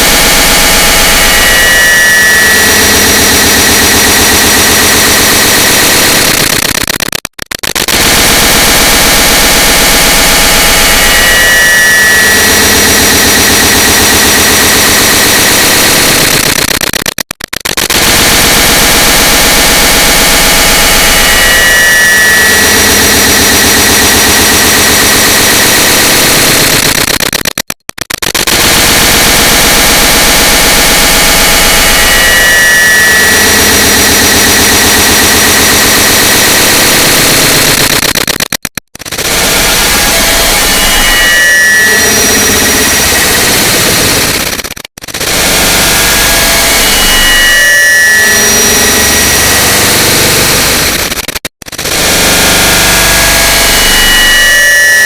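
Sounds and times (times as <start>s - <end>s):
harsh wall of stacked clicks: 0.0s - 32.4s, 33.3s - 45.8s, 49.3s - 53.7s
buzzing hum: 0.0s - 55.0s.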